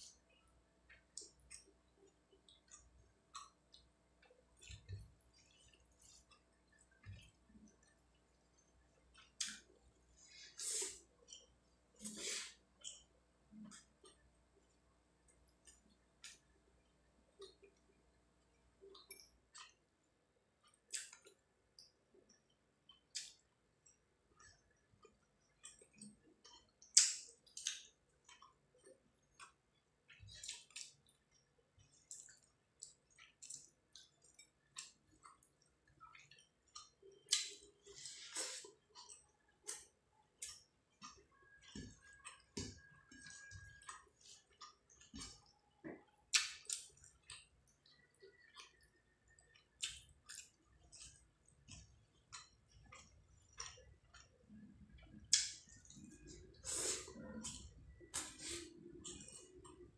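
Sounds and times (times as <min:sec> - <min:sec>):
wet chewing: 0:00.8 - 0:14.2, 0:20.6 - 0:59.9
mouth clicks and lip smacks: 0:02.4 - 0:14.2, 0:20.6 - 0:59.9.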